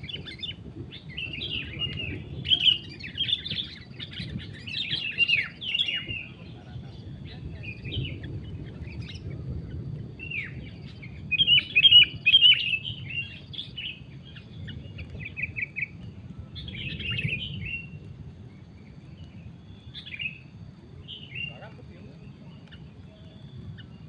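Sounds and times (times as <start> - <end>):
bulbuls chirping: 0.0 - 16.0, 16.6 - 24.0.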